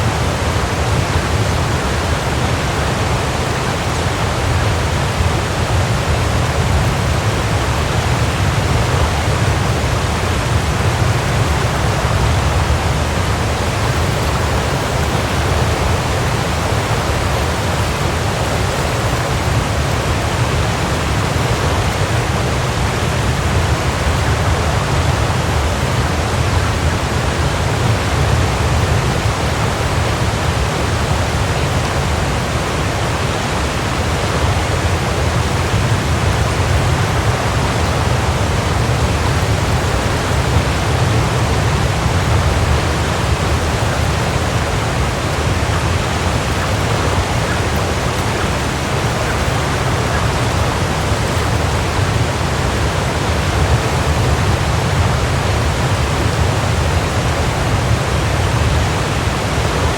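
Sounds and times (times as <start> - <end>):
waterfall pouring and crashing: 0.0 - 59.9.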